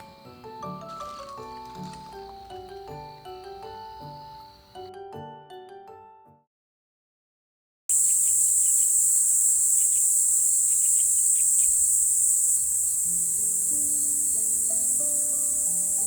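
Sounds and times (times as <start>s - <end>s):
crickets chorus trilling: 0.0s - 4.9s, 7.9s - 16.0s.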